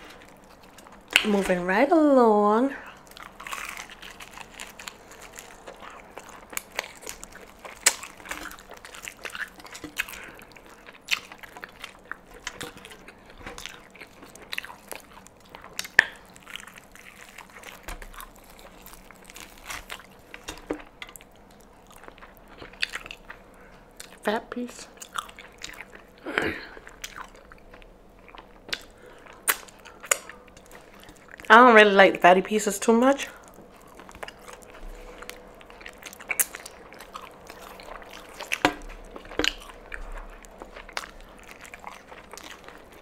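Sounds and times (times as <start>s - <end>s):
chewing: 0.0s - 1.5s, 2.7s - 31.5s, 33.2s - 43.0s
crunching fried chicken: 0.0s - 1.7s, 2.7s - 31.6s, 32.5s - 43.0s.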